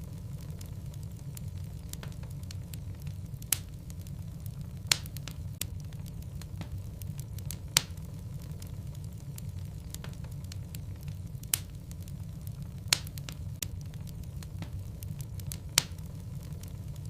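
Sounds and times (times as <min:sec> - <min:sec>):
logs crackling in fireplace: 0:00.0 - 0:17.0
low rumble of flames: 0:00.0 - 0:17.0
sharp fire pops: 0:00.0 - 0:17.0.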